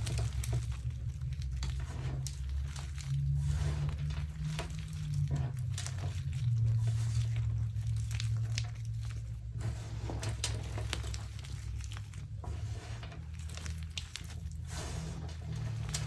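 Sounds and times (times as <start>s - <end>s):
hands crumbling chalk lumps: 0.0s - 16.0s
steady low hum: 0.0s - 16.0s.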